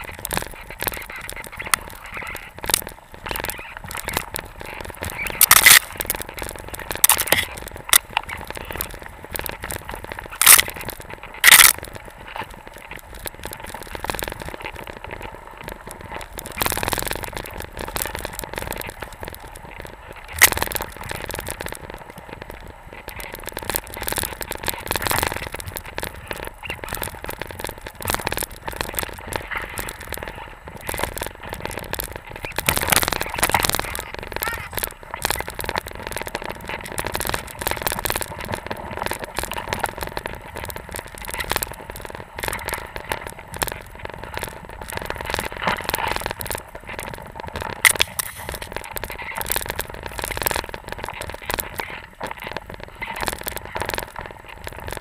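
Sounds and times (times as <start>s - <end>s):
powder snow scraping camera: 0.0s - 55.0s.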